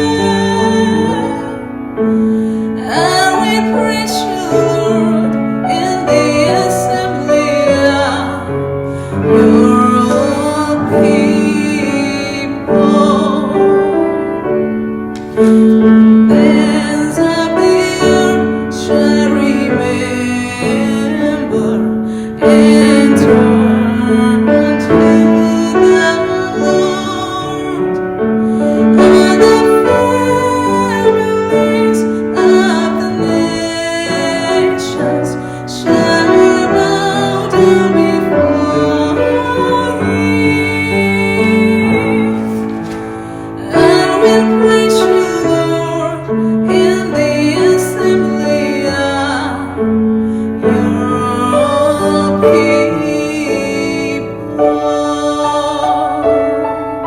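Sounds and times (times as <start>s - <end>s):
piano accompaniment: 0.0s - 57.0s
woman singing worship song: 0.0s - 57.0s.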